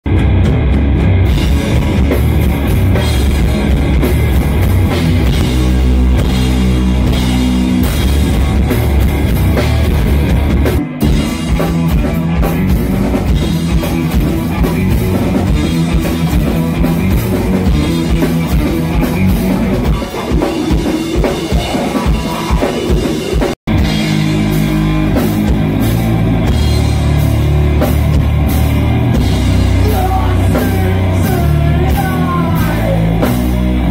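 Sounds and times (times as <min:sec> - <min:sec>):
distorted electric guitars: 0:00.0 - 0:33.9
pounding drum kit: 0:00.0 - 0:33.9.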